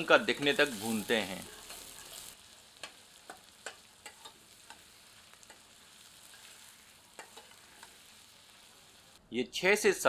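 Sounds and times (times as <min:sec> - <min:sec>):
onions sizzling in oil: 0:00.0 - 0:09.2.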